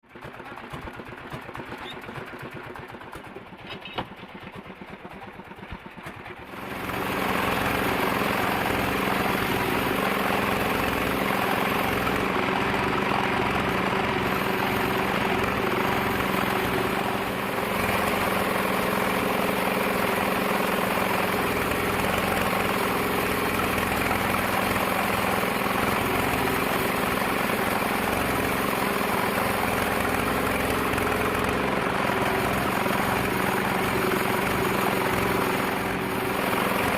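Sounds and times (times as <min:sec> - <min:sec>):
sawmill machinery droning: 0:04.2 - 0:36.9.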